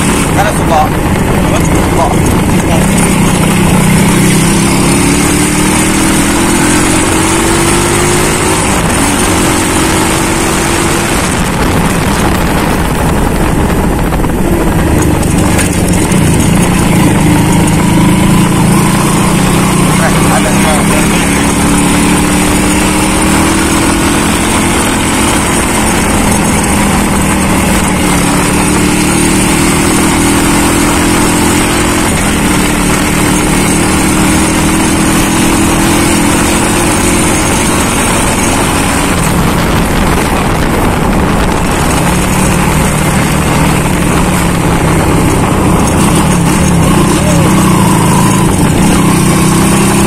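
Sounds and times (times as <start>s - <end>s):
motorcycle engine running: 0.0s - 50.0s
wind noise on microphone: 0.0s - 50.0s.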